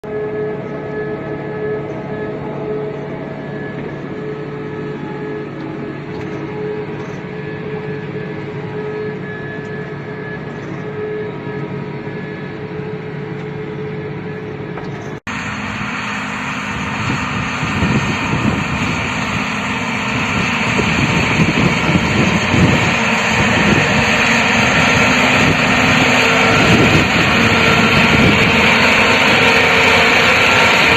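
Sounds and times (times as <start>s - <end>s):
combine harvester humming: 0.0s - 30.9s.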